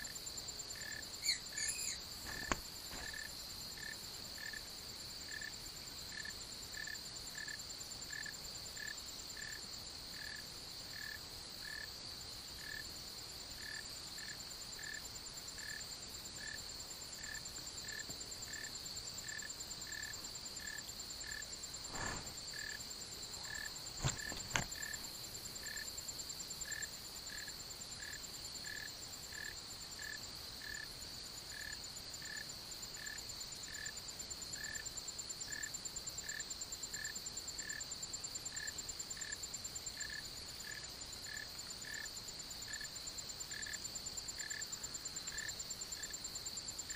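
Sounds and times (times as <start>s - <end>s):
insects trilling and chirping: 0.0s - 46.9s.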